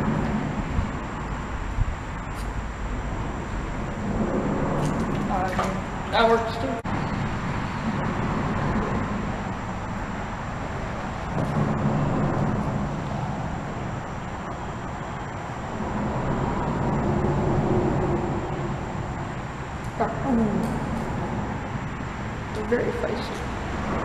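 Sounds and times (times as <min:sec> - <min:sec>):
road traffic droning: 0:00.0 - 0:24.0.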